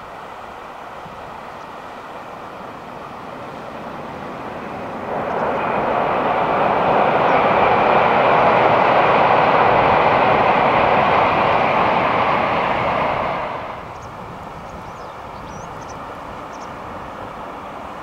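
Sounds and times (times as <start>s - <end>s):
train passing over steel bridge: 0.0s - 18.0s.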